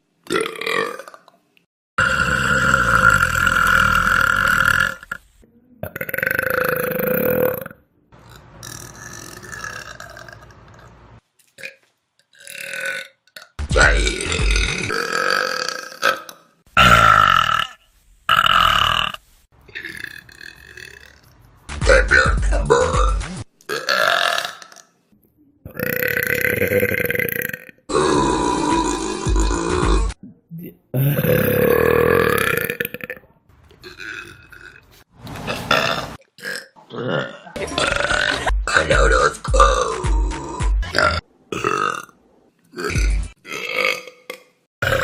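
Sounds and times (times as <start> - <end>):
person burping: 0.3 - 1.3, 2.0 - 5.2, 5.8 - 11.0, 11.6 - 24.9, 25.7 - 33.2, 33.8 - 34.8, 35.7 - 45.0.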